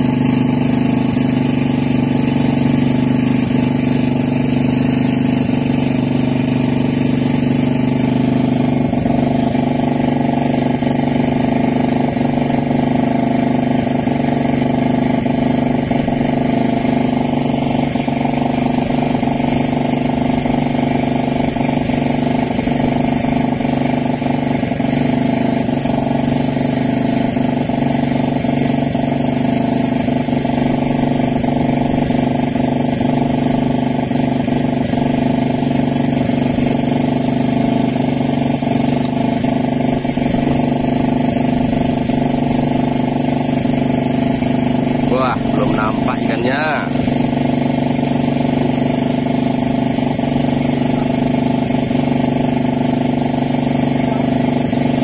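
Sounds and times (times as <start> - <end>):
engine droning steadily: 0.0 - 55.0.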